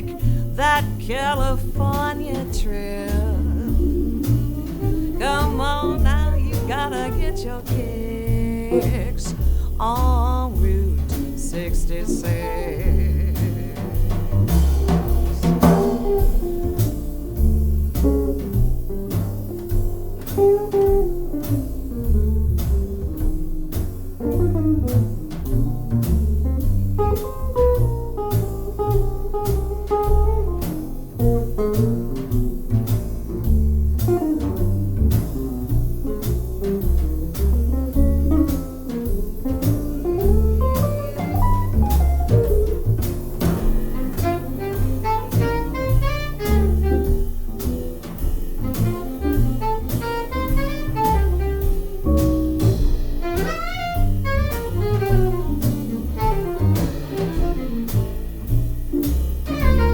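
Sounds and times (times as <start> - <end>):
double bass line: 0.0 - 59.9
drum kit keeping time: 0.0 - 59.9
solo jazz melody: 0.0 - 59.9.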